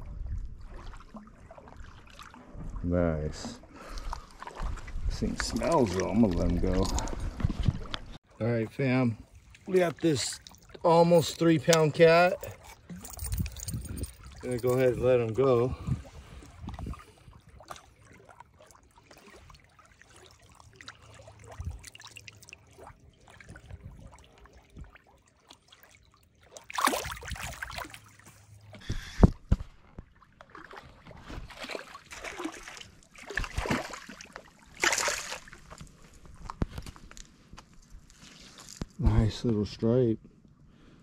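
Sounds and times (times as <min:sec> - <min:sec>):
water splashing and sloshing: 0:00.0 - 0:39.2.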